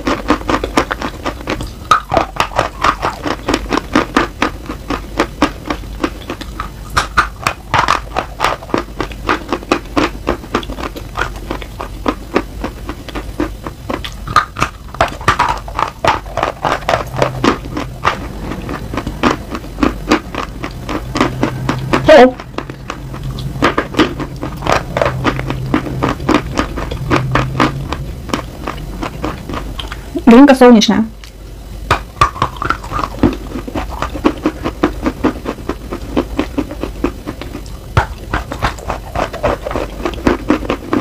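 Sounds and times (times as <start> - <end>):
chalk crunching being chewed: 0.0 - 30.0, 32.2 - 41.0.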